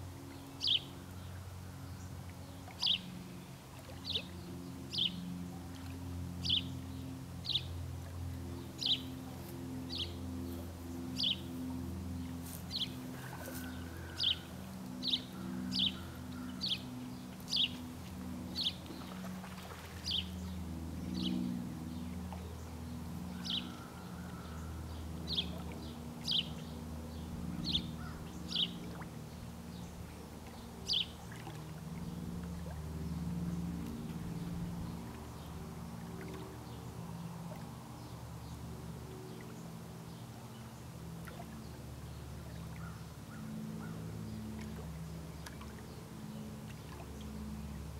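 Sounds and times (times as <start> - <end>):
low steady drone: 0.0 - 47.9.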